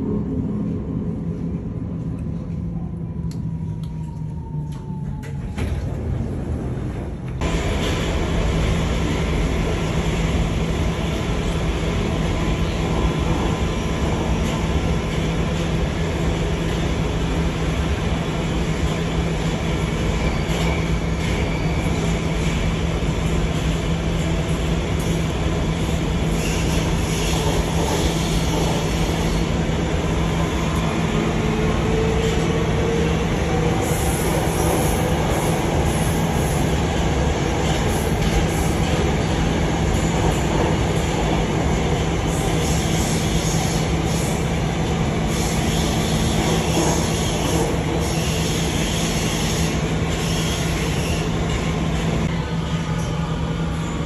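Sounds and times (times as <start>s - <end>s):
metro train rumbling in tunnel: 0.0s - 54.0s.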